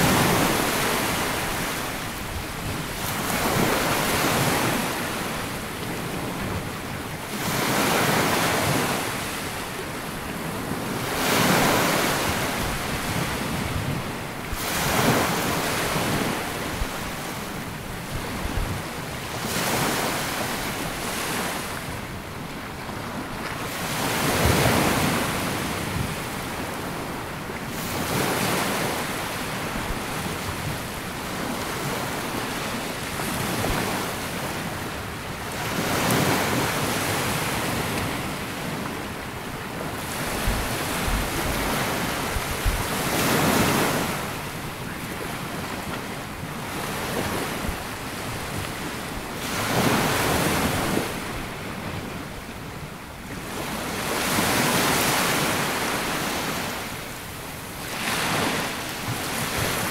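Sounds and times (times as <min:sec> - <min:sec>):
waves washing up a beach: 0:00.0 - 0:59.9
wind on microphone: 0:00.0 - 0:59.9.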